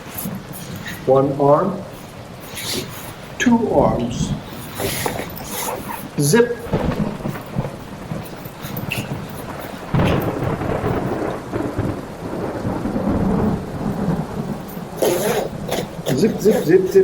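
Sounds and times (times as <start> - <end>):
rain falling: 0.0 - 17.0
rolling thunder: 0.0 - 17.0.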